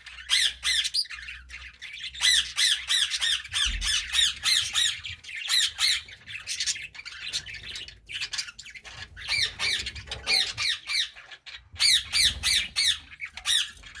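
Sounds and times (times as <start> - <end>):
budgerigars chirping: 0.0 - 14.0.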